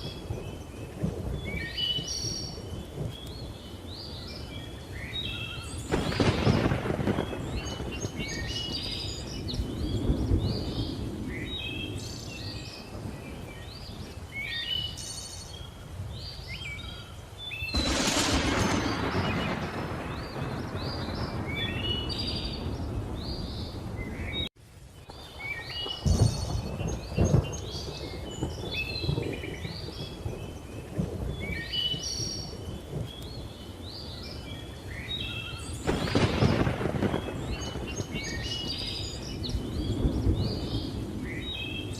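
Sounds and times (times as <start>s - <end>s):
thunder rumbling and cracking: 0.0s - 4.4s, 5.0s - 14.3s, 17.7s - 41.9s
jungle birds chirping: 0.0s - 41.9s.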